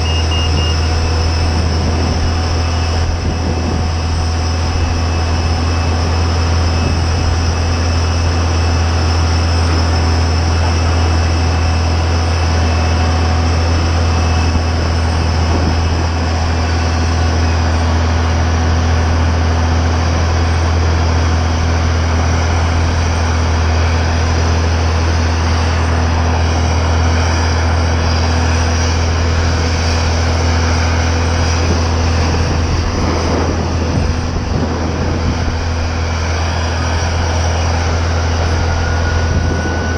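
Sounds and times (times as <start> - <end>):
airliner deep hum and whine: 0.0 - 39.9.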